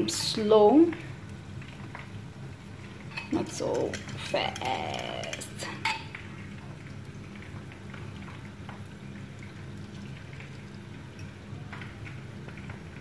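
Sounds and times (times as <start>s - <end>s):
faint crackles: 0.0s - 13.0s
liquid pouring into a frying pan: 0.1s - 13.0s.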